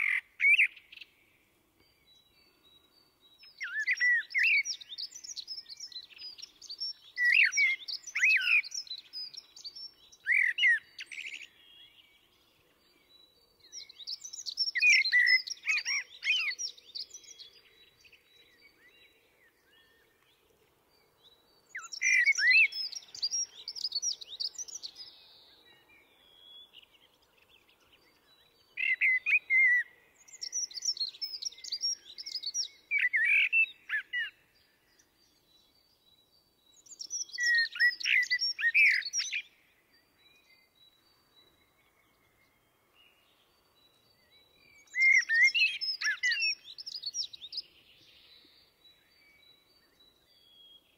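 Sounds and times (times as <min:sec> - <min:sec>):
blackbird singing: 0:00.0 - 0:50.9.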